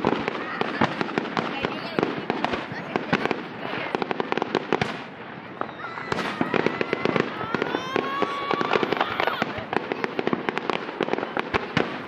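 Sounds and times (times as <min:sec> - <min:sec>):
fireworks crackling and popping: 0:00.0 - 0:12.0
fireworks whistling: 0:00.0 - 0:12.0.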